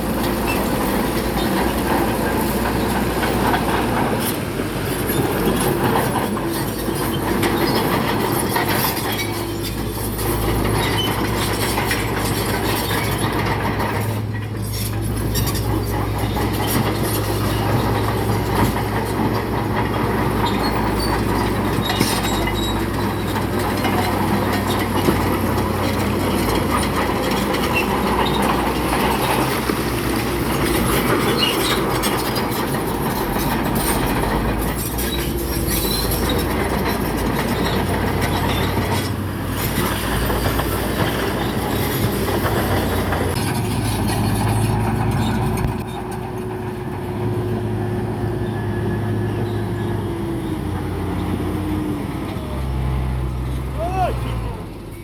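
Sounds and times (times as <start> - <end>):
steel tracks clattering: 0.0 - 52.7
bulldozer diesel engine: 0.0 - 55.0.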